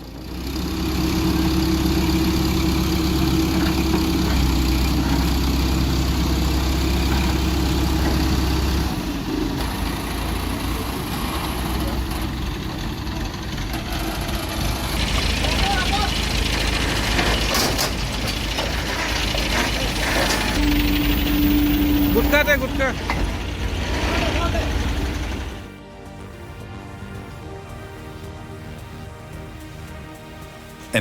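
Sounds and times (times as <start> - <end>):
heavy truck engine running: 0.0 - 31.0.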